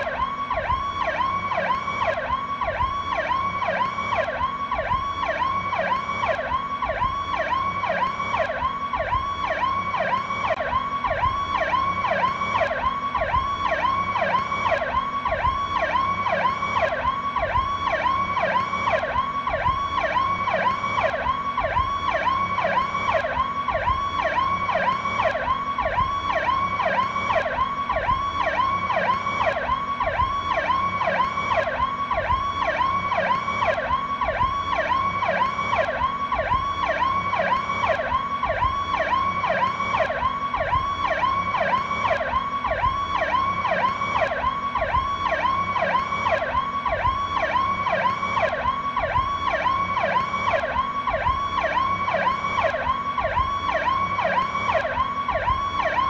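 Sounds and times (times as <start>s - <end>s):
police siren yelping: 0.0s - 56.0s.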